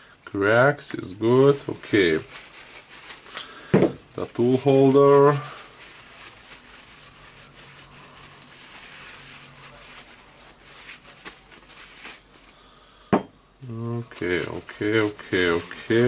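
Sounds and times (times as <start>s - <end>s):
paper towel crinkling and rubbing: 0.4s - 12.7s, 13.7s - 16.0s.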